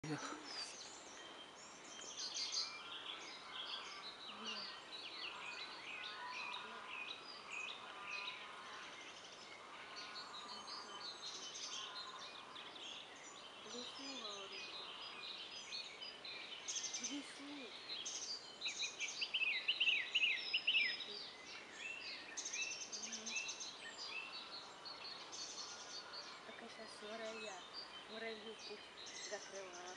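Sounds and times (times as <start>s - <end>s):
songbirds chirping and trilling: 0.0s - 29.9s.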